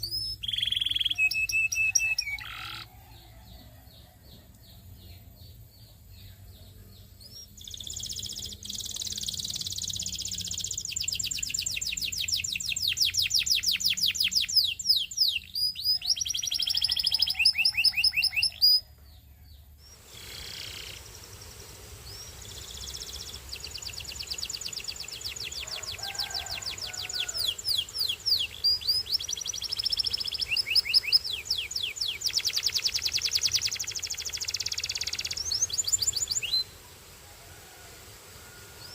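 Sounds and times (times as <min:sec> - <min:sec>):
canary singing trills: 0:00.0 - 0:21.3, 0:22.0 - 0:36.8.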